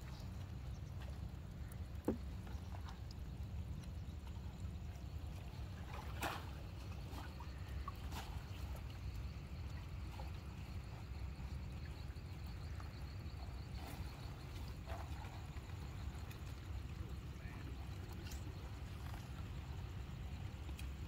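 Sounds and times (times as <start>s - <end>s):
water trickling and splashing: 0.0s - 21.0s.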